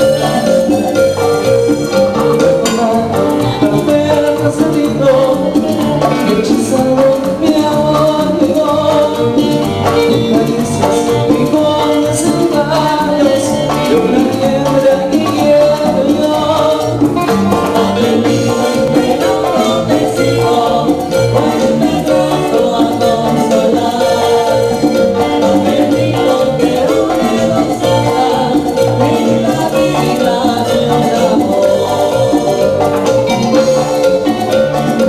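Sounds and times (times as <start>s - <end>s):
live latin dance band playing: 0.0s - 35.0s.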